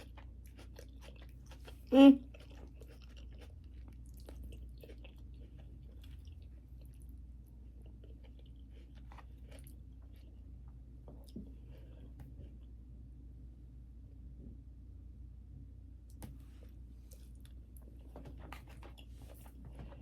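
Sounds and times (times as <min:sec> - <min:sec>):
person chewing food: 0:00.0 - 0:12.8, 0:16.1 - 0:20.0
steady low hum: 0:00.0 - 0:20.0.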